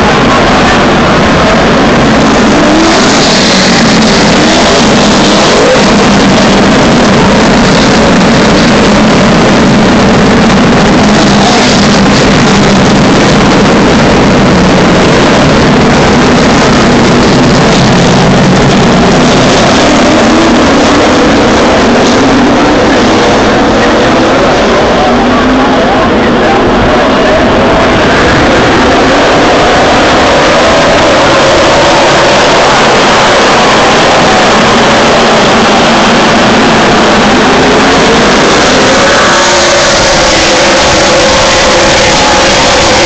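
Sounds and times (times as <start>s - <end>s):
race cars passing at speed: 0.0s - 43.0s.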